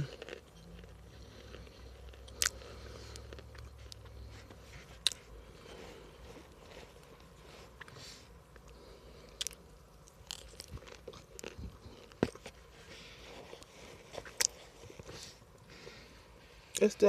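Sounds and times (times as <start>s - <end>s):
person crunching hard food: 0.0s - 7.9s, 8.5s - 15.4s.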